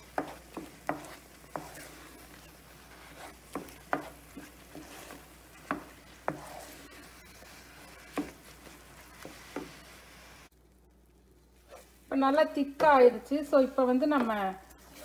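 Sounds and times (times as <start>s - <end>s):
spatula knocking and scraping pan: 0.0s - 10.1s, 12.3s - 14.4s.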